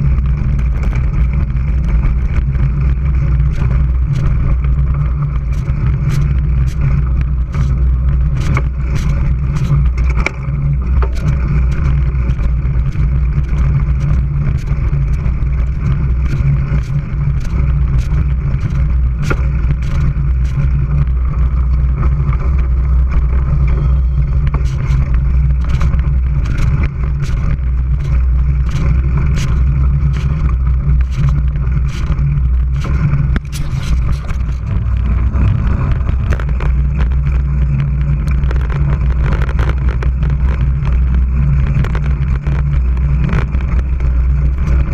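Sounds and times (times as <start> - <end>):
bike rattling and knocking: 0.0 - 44.9
wind buffeting and rolling rumble: 0.0 - 44.9.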